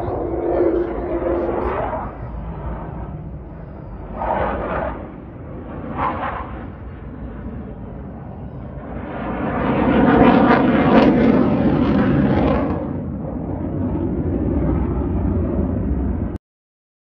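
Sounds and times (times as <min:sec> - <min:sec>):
fighter jet passing overhead: 0:00.0 - 0:16.4.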